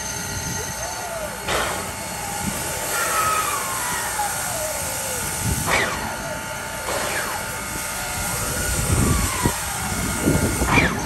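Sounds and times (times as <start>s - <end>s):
steam locomotive hissing: 0.0s - 11.0s
chuff-like bursts: 1.5s - 11.0s.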